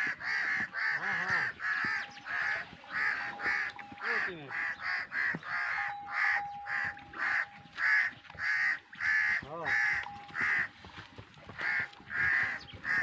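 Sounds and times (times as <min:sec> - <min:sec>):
crow-like cawing: 0:00.0 - 0:10.7, 0:11.6 - 0:13.0.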